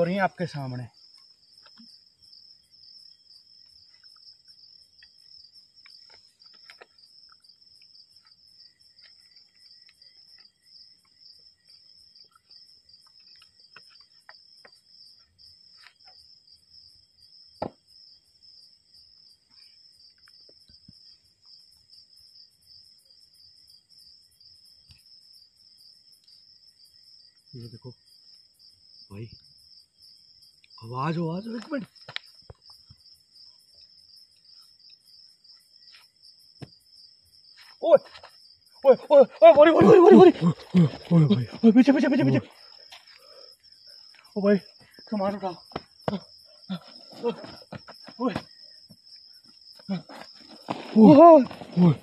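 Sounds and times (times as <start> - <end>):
crickets trilling: 0.0 - 52.0.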